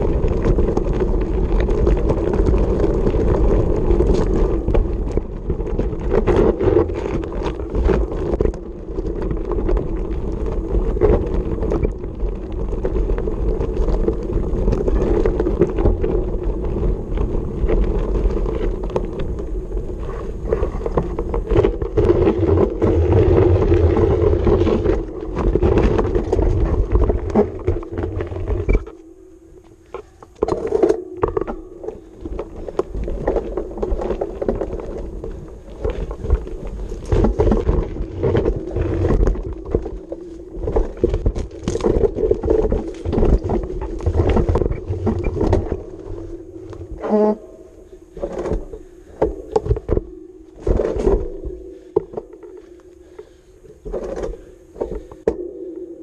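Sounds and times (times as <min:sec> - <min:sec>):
tyres crunching on dirt: 0:00.0 - 0:55.3.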